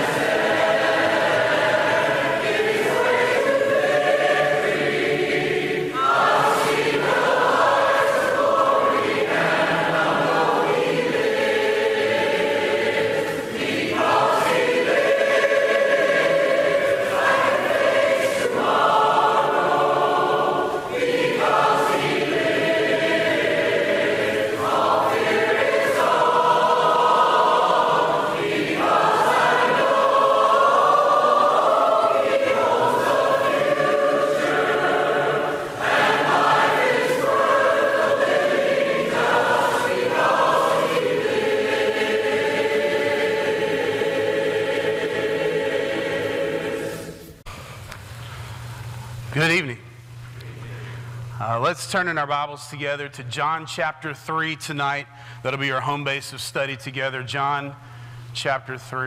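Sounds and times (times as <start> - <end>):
congregation singing a hymn: 0.0 - 47.5.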